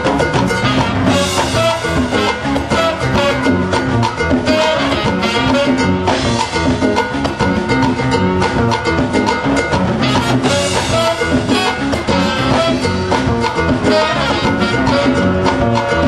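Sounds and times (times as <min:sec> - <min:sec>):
horns: 0:00.0 - 0:06.9, 0:09.9 - 0:16.0
congas: 0:00.0 - 0:16.0
drum kit: 0:00.0 - 0:16.0
latin jazz band playing: 0:00.0 - 0:16.0
piano: 0:00.0 - 0:16.0.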